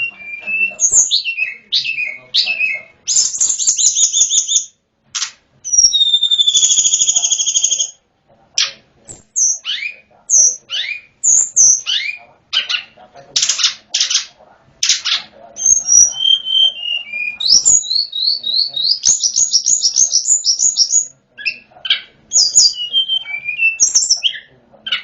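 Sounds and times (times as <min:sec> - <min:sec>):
songbird singing flute-like song: 0:00.0 - 0:08.0, 0:08.6 - 0:25.0.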